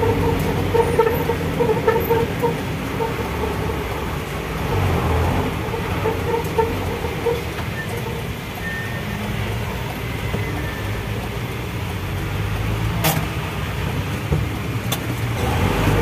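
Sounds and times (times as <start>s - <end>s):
nearby truck engines: 0.0s - 16.0s
truck engine rumble from cab: 0.0s - 16.0s.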